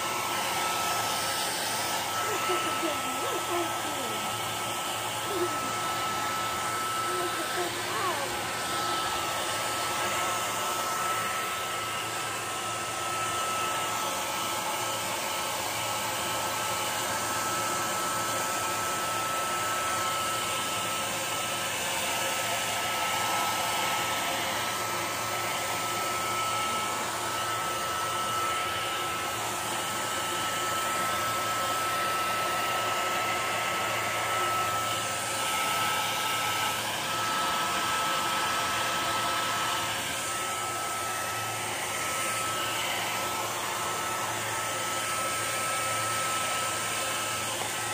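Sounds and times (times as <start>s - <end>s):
hair dryer running: 0.0s - 47.9s.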